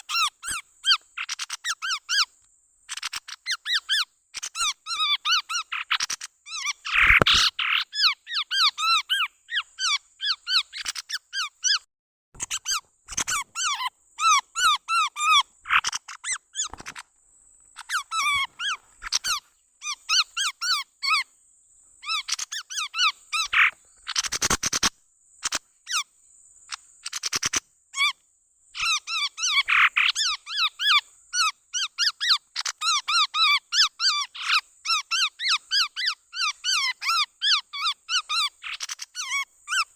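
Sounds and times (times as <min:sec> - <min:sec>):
babbler sharp chirping calls: 0:00.0 - 0:02.3, 0:02.9 - 0:11.8, 0:12.4 - 0:17.0, 0:17.8 - 0:21.2, 0:22.0 - 0:26.0, 0:28.8 - 0:39.9.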